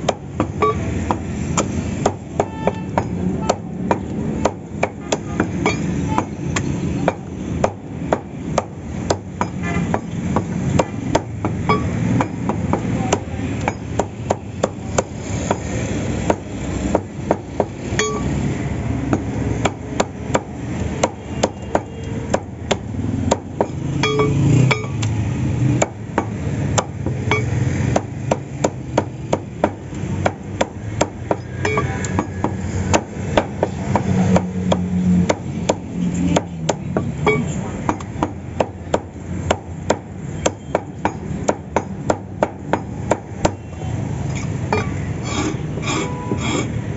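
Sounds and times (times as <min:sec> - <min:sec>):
cleaver chopping on wooden block: 0:00.0 - 0:18.2, 0:19.1 - 0:43.7.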